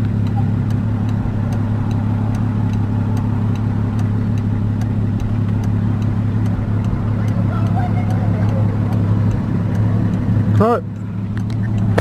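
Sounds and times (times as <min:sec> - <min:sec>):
car engine idling: 0:00.0 - 0:12.0
fast regular ticking: 0:00.0 - 0:12.0.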